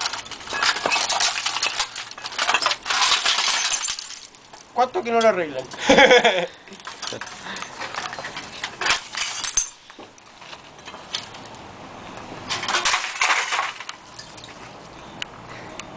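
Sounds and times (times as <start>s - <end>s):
small hard objects clinking: 0.0s - 5.8s, 6.6s - 11.6s, 12.5s - 14.9s.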